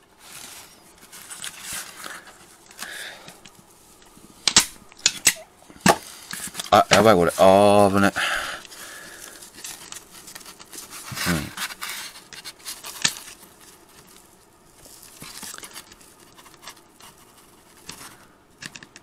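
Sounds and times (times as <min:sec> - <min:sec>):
fabric rustling and scraping: 0:00.0 - 0:02.8, 0:05.1 - 0:18.3.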